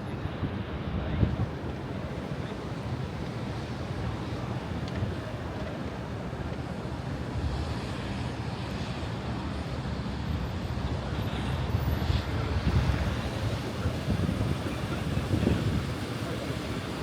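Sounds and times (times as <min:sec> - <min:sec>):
city background rumble: 0:00.0 - 0:17.0.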